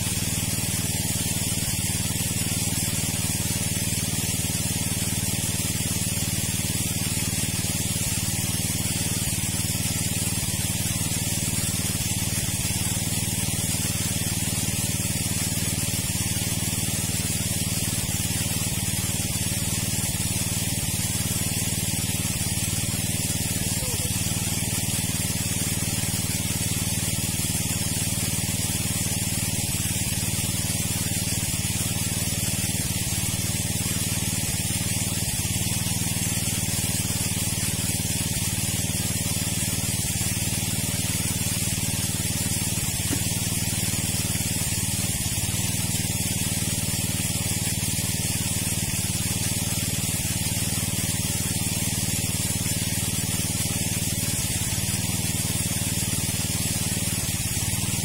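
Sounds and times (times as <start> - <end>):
water pump humming: 0.0 - 58.0
water spraying hiss: 0.0 - 58.0.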